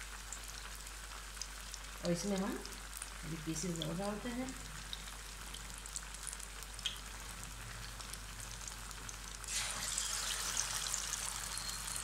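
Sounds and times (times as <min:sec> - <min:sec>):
battered fish deep-frying in oil: 0:00.0 - 0:12.0.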